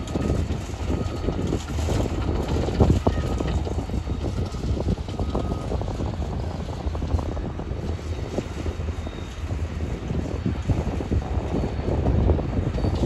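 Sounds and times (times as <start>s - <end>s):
freight train rumbling past: 0.0s - 13.0s
wind buffeting microphone: 0.0s - 13.0s.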